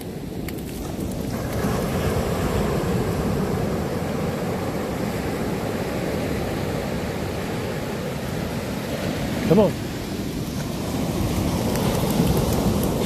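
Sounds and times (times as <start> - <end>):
surf washing onto sandy shore: 0.0 - 13.0
wind rumbling on microphone: 0.0 - 13.0.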